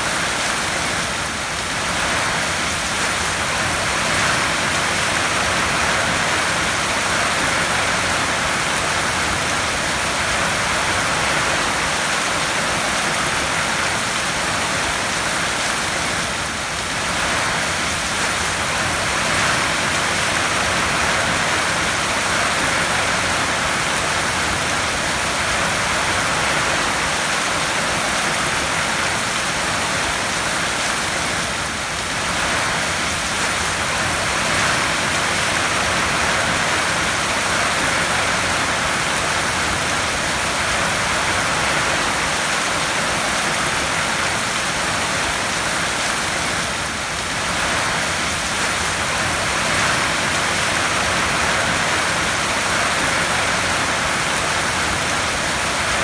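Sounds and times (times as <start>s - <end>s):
heavy rain on a tin roof: 0.0s - 56.0s.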